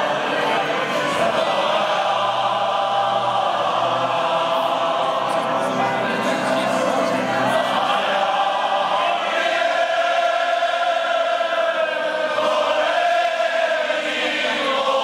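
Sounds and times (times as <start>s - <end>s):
men singing in chorus: 0.0s - 6.3s, 7.3s - 15.0s.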